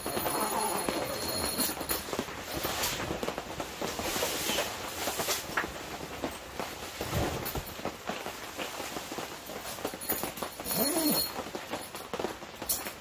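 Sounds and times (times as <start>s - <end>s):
canvas rustling: 0.0s - 13.0s
rain on canvas tent: 0.0s - 13.0s.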